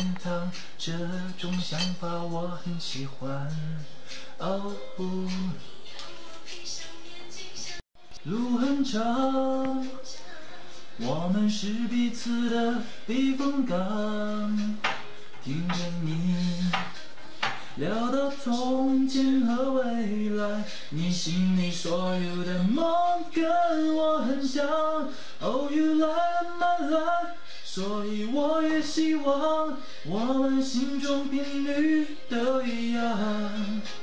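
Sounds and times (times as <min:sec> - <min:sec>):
man singing slow melody: 0:00.0 - 0:06.4, 0:08.1 - 0:34.0.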